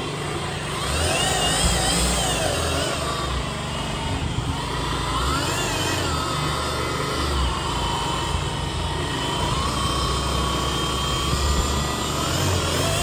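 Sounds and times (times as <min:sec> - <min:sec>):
polisher motor whining: 0:00.0 - 0:13.0.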